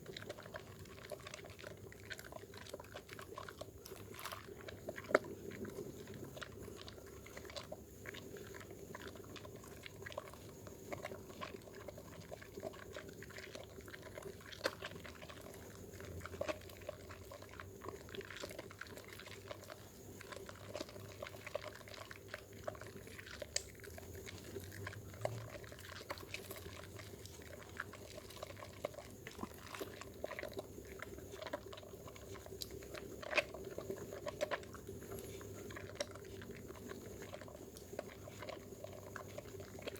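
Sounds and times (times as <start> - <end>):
soap bar lathered with water: 0.0 - 39.9.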